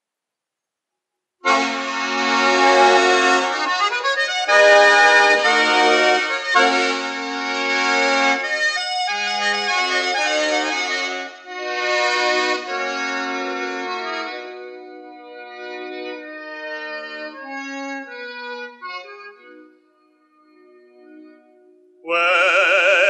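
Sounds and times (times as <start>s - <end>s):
accordion playing chords: 1.4s - 23.0s.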